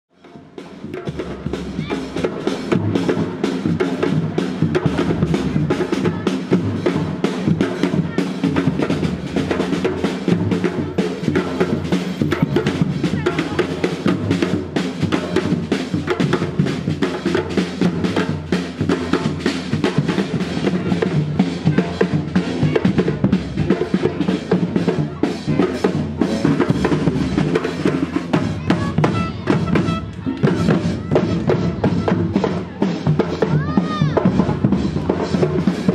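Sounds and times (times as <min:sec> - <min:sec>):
bass and snare drums beating: 0:00.2 - 0:35.9.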